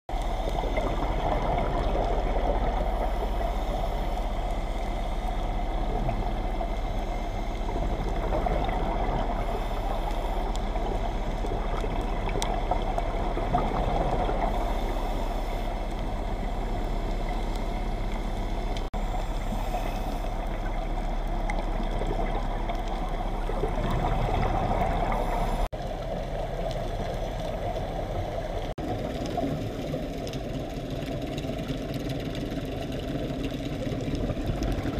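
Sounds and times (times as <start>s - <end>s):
constant low hum: 0.1s - 34.9s
muffled underwater drone: 0.1s - 34.9s.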